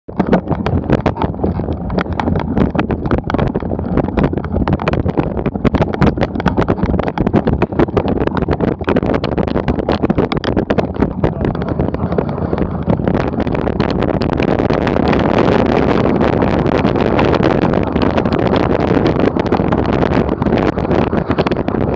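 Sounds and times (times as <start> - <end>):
wind rumbling on microphone: 0.0 - 21.9
bike rattling on rough ground: 0.1 - 21.9.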